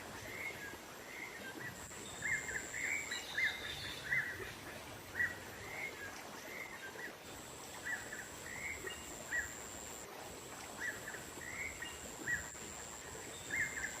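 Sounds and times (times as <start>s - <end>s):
hissy nature ambience: 0.0s - 14.0s
songbird chirping: 0.2s - 10.0s, 10.6s - 14.0s.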